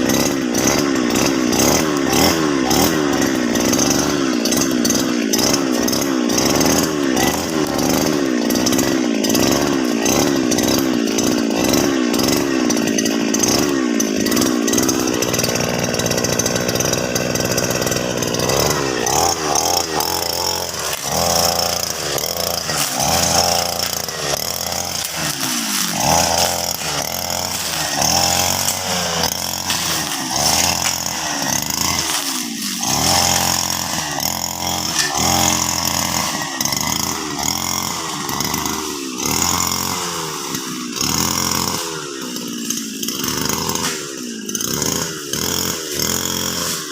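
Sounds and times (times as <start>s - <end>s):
brush cutter engine revving: 0.0s - 46.9s.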